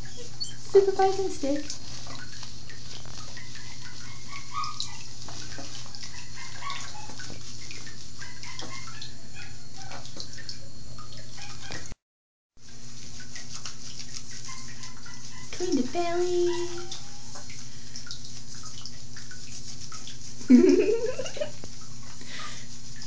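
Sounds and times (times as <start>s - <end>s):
water dripping and splashing: 0.0s - 12.0s, 12.6s - 23.0s.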